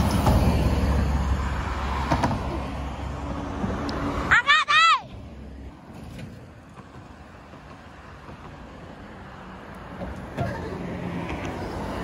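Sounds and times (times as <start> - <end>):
highway traffic passing: 0.0 - 12.0.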